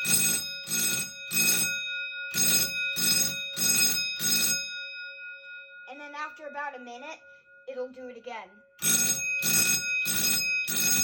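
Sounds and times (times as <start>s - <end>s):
fire alarm bell ringing: 0.0s - 7.8s, 8.5s - 11.0s.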